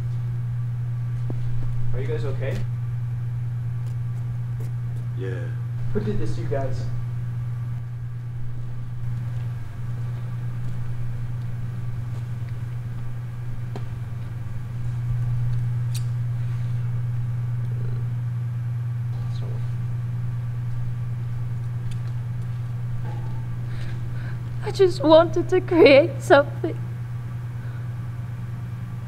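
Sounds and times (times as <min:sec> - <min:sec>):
low rumbling drone: 0:05.3 - 0:29.0.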